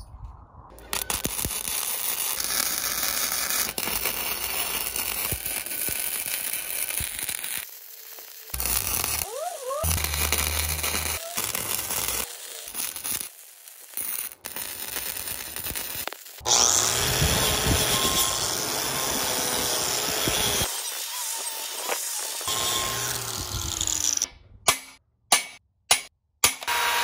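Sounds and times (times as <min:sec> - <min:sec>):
angle grinder on steel: 0:00.8 - 0:24.3
welding arc crackling and hissing: 0:00.8 - 0:24.3.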